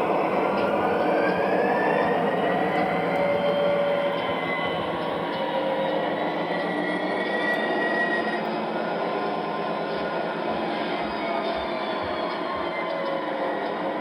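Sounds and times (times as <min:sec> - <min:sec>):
faint wavering whine: 0:00.0 - 0:14.0
model train rumbling on track: 0:00.0 - 0:14.0.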